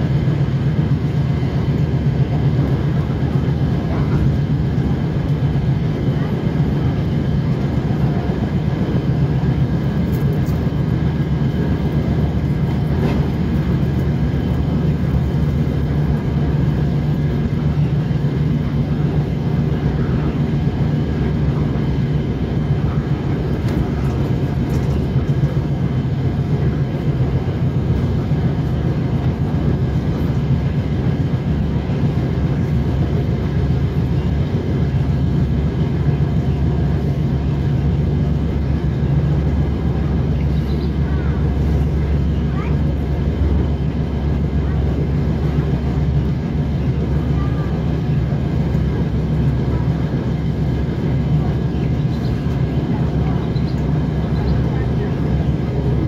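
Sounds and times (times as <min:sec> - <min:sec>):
train diesel engine drone: 0:00.0 - 0:56.0.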